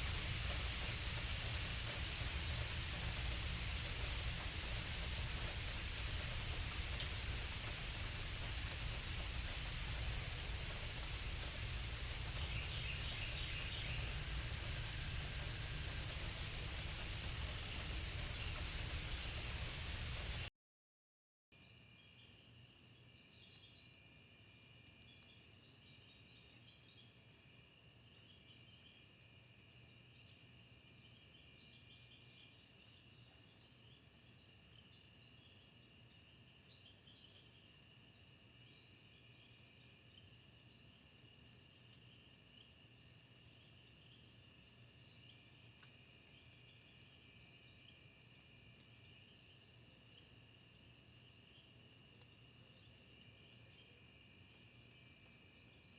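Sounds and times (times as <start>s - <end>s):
insect chirps: 0.0s - 20.4s, 21.6s - 55.9s
insect drones: 0.0s - 20.5s, 21.6s - 55.9s.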